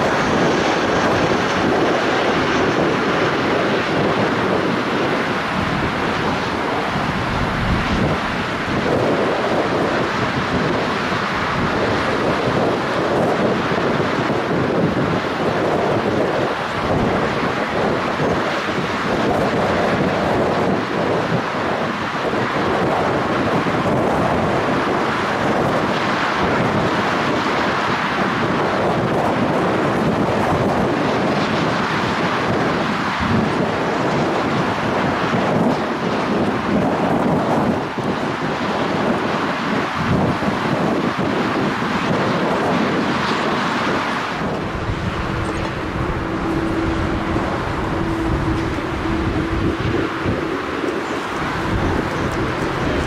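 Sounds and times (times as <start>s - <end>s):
jet engines at takeoff: 0.0s - 53.0s
wind buffeting microphone: 0.0s - 53.0s.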